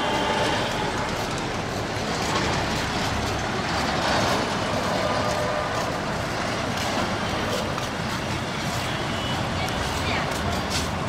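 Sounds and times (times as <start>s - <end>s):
train wheels clattering on rails: 0.0s - 11.0s.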